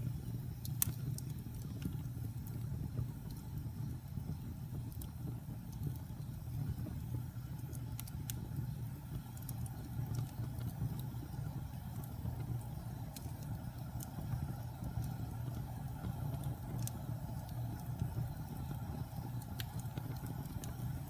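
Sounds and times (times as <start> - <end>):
fire crackles and pops: 0.0 - 21.0
fire roaring in fireplace: 0.0 - 21.0.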